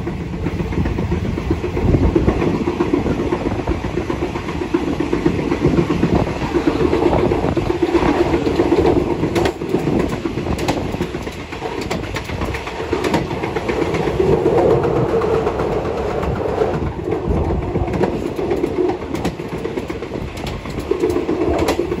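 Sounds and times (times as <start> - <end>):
train wheels rumbling on rails: 0.0 - 22.0
wheels clacking over rail joints: 0.0 - 22.0.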